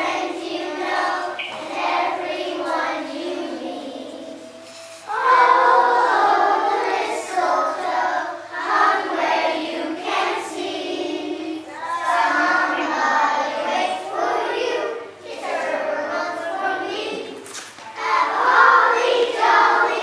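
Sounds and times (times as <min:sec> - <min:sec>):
children singing in chorus: 0:00.0 - 0:20.0.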